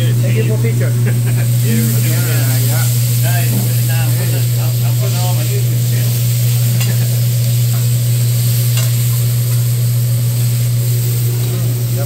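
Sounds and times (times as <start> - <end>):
meat sizzling on a griddle: 0.0 - 12.0
steady low hum: 0.0 - 12.0.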